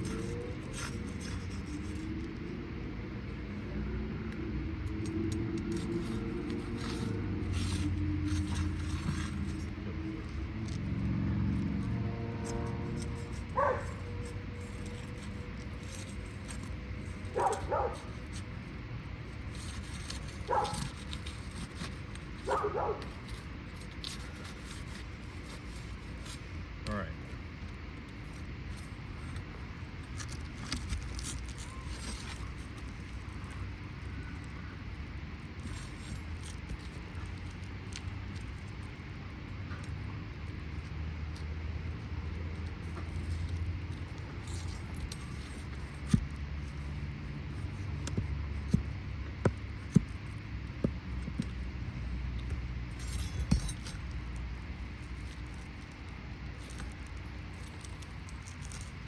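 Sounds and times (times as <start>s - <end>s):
tools scraping and clicking metal: 0.0s - 2.5s, 4.3s - 27.0s, 27.6s - 59.0s
steady low rumble: 0.0s - 59.0s.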